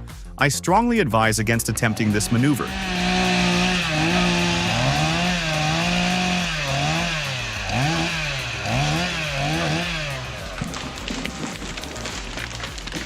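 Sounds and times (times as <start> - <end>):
chainsaw engine running at high revs: 1.8 - 13.0.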